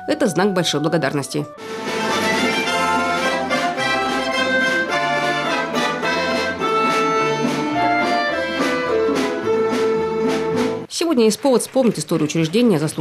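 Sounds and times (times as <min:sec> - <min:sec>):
folk instrument orchestra playing: 0:00.0 - 0:10.9.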